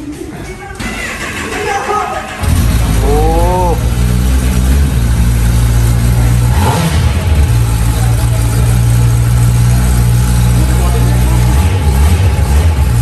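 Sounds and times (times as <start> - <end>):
motorcycle engine running: 0.9 - 13.0.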